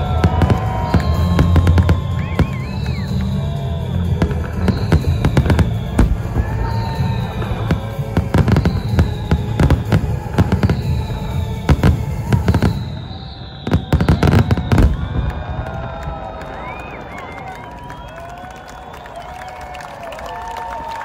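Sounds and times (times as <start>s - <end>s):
fireworks barrage: 0.0s - 19.1s.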